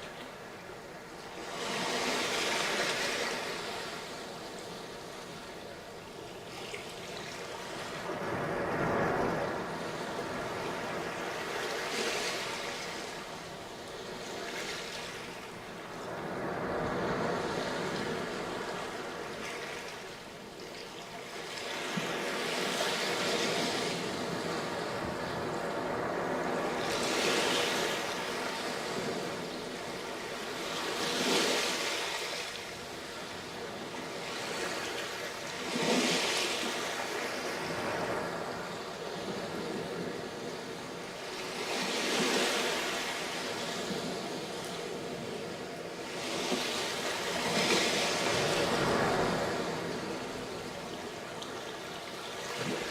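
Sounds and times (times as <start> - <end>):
sea waves breaking on beach: 0.0 - 52.9.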